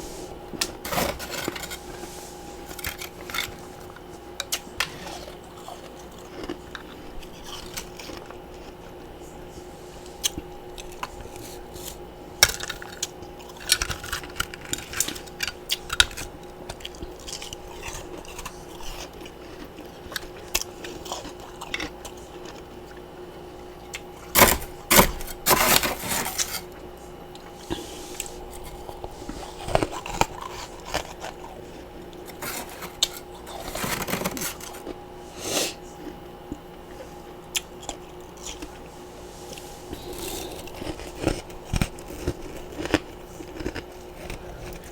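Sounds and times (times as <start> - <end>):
faint steady hum: 0.0 - 44.9
chewing ice: 2.6 - 9.2, 10.1 - 35.0, 35.9 - 38.9, 39.5 - 44.9.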